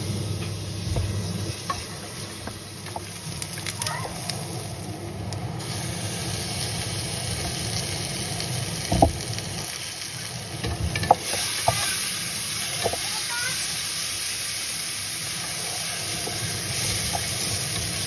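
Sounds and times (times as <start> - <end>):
onions sizzling in a pot: 0.0 - 18.0.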